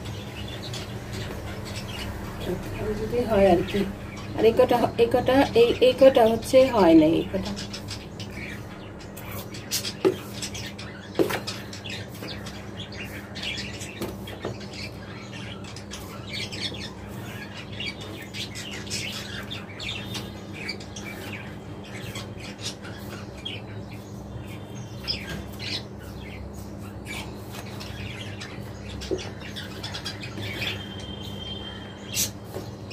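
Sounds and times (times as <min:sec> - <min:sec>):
budgerigars chirping: 0:00.0 - 0:32.9.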